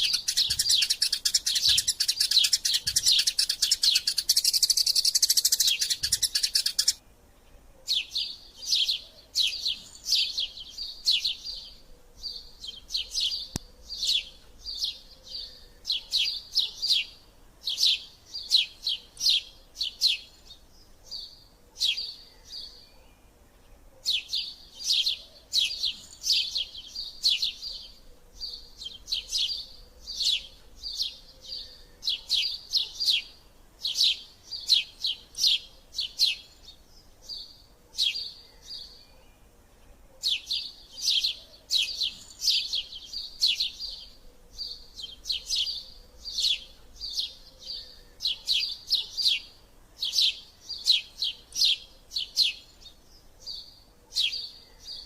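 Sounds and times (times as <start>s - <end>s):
sparrow chirping: 0.0s - 55.0s.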